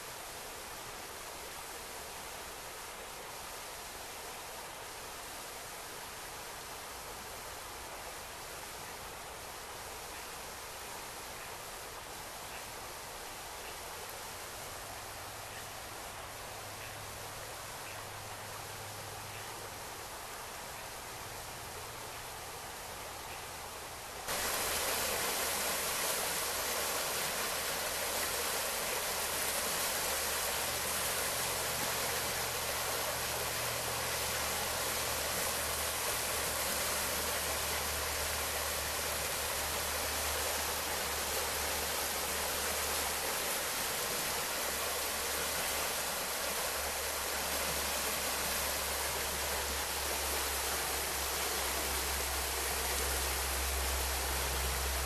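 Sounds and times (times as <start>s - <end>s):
forest stream rushing: 0.0s - 55.0s.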